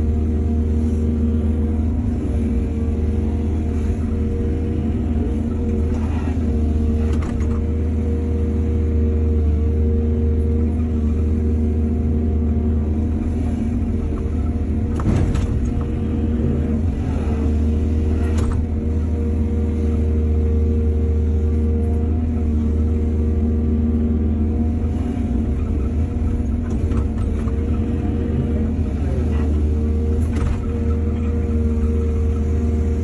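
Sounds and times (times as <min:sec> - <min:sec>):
excavator diesel engine: 0:00.0 - 0:33.0.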